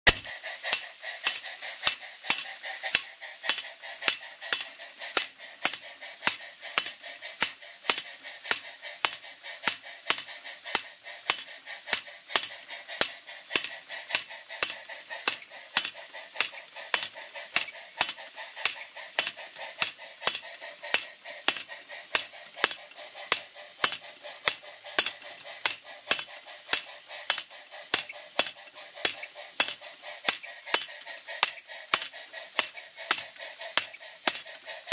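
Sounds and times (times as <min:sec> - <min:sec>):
continuous hiss: 0:00.1 - 0:34.9
model steam hammer striking anvil: 0:00.1 - 0:34.9.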